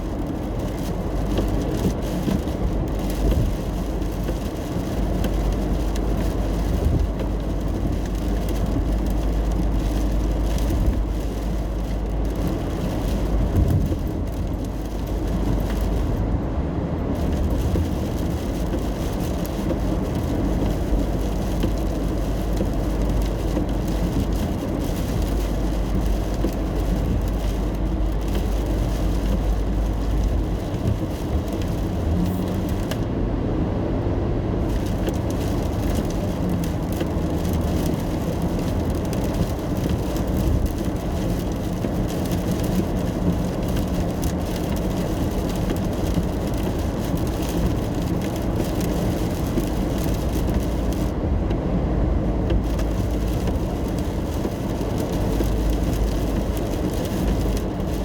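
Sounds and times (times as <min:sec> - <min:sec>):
rain and spray hissing: 0:00.0 - 0:16.2, 0:17.1 - 0:33.1, 0:34.6 - 0:51.4, 0:52.0 - 0:58.0
car engine and tyres rumbling: 0:00.0 - 0:58.0.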